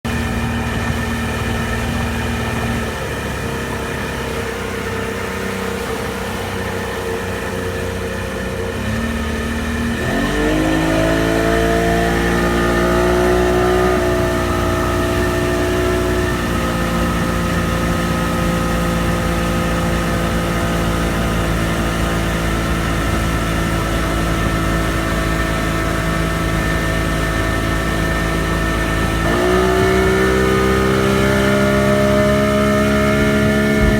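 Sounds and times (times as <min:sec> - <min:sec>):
boat engine running and revving: 0:00.0 - 0:33.9.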